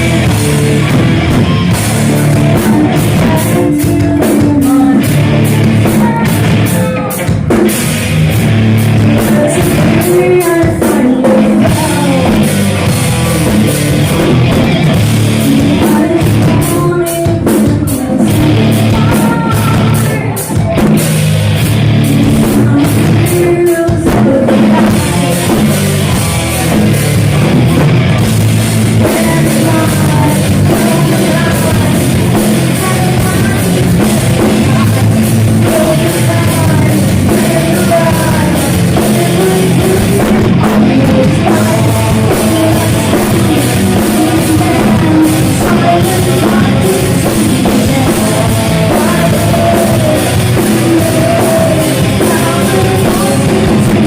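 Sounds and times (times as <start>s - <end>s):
person singing: 0.0s - 7.6s, 8.8s - 21.2s, 21.9s - 54.0s
heavy metal band playing live: 0.0s - 54.0s.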